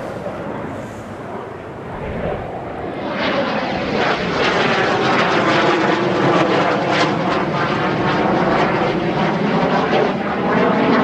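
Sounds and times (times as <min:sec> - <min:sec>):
jets flying past overhead: 0:00.0 - 0:11.0.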